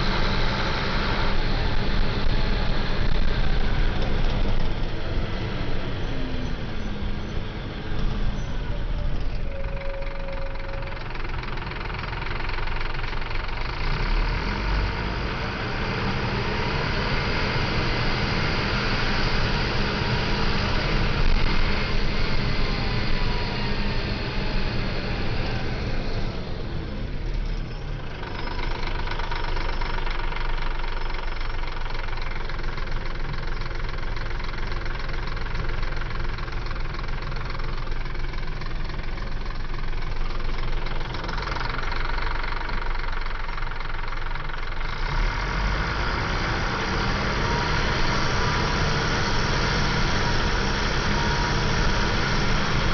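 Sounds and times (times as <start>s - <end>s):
bus diesel engine revving: 0.0s - 52.9s.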